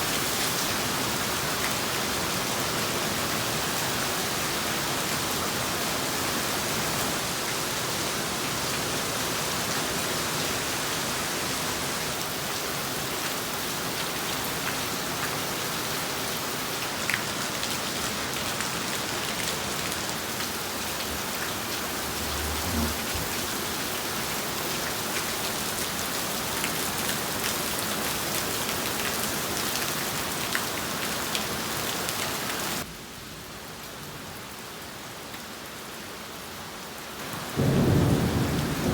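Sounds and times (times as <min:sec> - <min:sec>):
heavy rain pouring: 0:00.0 - 0:36.1, 0:37.2 - 0:38.9.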